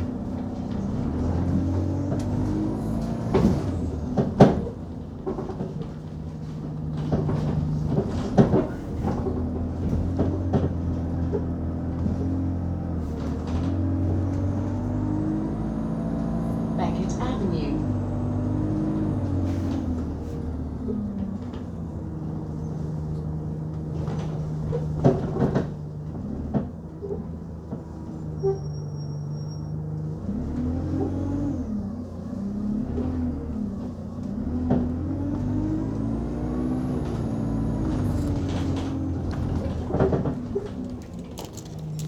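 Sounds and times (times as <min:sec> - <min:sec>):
bus diesel engine droning: 0:00.0 - 0:42.0.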